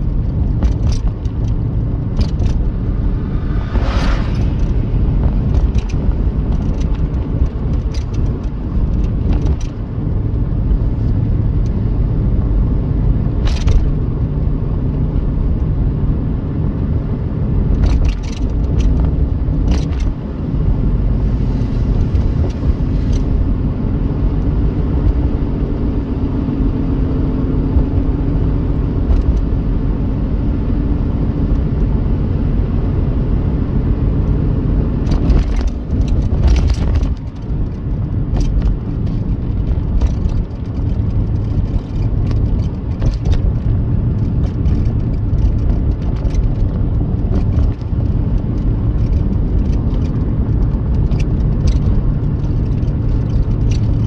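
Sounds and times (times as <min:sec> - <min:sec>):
tyre and engine rumble: 0:00.0 - 0:54.0.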